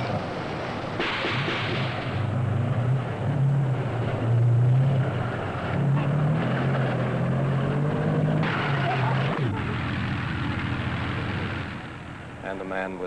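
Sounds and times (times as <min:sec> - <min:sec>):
diesel engine revving: 0:00.0 - 0:12.5.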